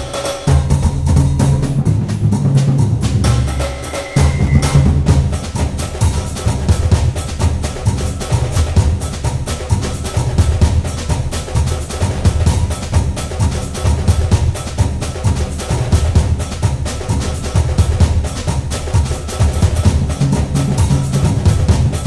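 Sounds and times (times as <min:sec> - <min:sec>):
music with drum beat and heavy bass: 0:00.0 - 0:22.0.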